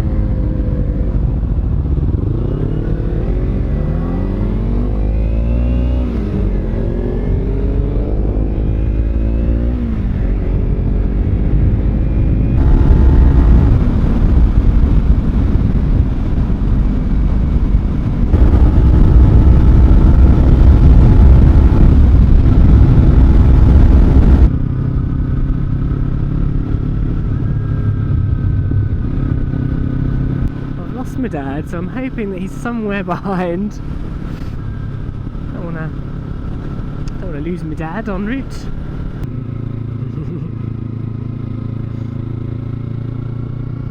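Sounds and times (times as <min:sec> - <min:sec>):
motorcycle engine accelerating: 0:00.0 - 0:32.2, 0:38.2 - 0:43.9
wind rush over microphone: 0:00.0 - 0:39.6.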